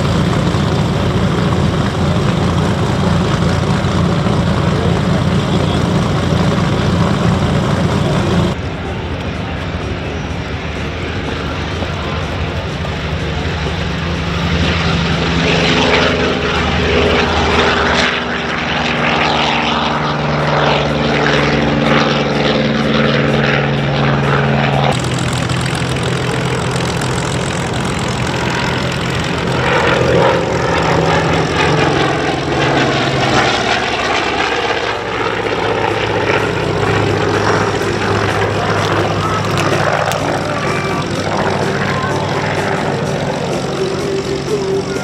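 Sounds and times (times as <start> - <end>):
propeller plane engine drone: 0.0 - 45.0.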